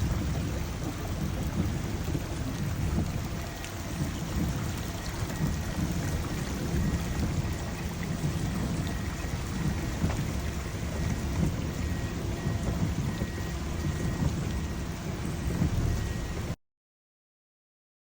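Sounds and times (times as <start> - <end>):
heavy rain falling: 0.0 - 16.5.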